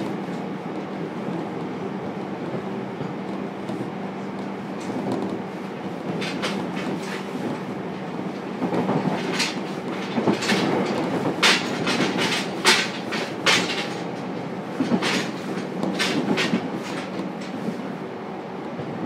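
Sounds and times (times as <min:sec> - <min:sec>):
wheel clacks over rail joints: 0:00.0 - 0:17.9
train rumble and hum: 0:00.0 - 0:19.0.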